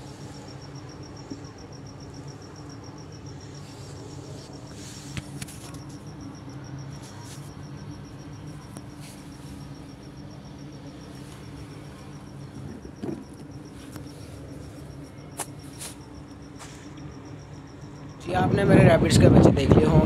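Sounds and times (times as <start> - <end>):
insect chirping: 0.0 - 20.0
low steady hum: 0.0 - 20.0.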